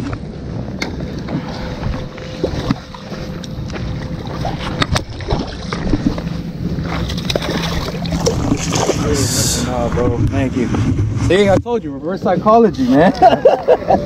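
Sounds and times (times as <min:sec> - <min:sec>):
water splashing and sloshing: 0:00.0 - 0:12.6
low rumble of jostled camera: 0:00.0 - 0:14.0.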